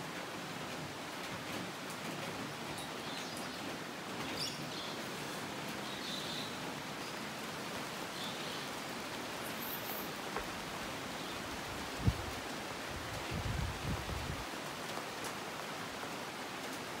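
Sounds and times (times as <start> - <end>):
rain on foliage: 0.0 - 17.0.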